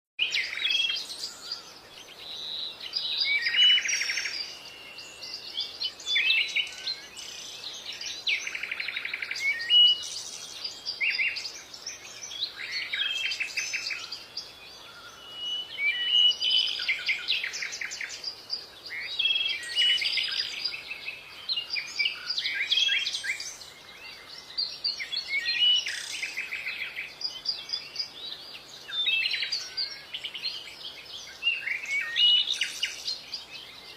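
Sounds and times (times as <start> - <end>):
songbirds singing: 0.2 - 33.9.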